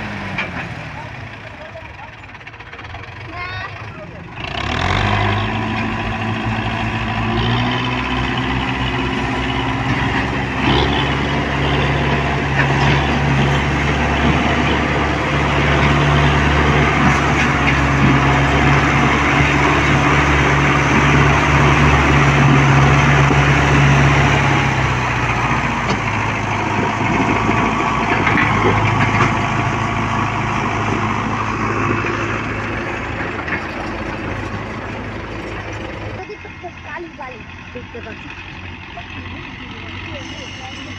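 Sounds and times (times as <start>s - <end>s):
diesel tractor engine under load: 0.0s - 40.9s.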